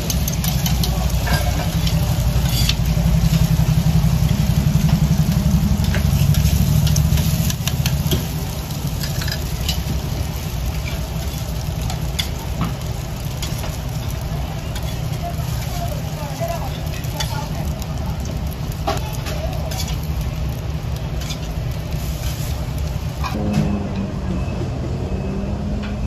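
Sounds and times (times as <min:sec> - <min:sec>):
low mechanical rumble: 0:00.0 - 0:26.0.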